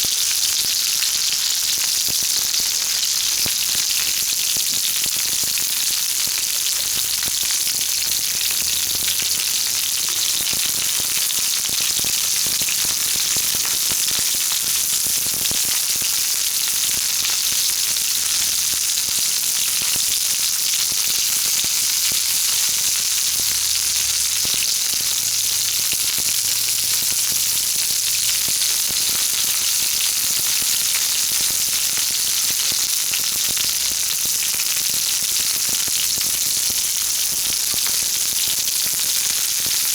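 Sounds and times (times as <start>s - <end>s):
mushrooms sizzling in oil: 0.0s - 39.9s.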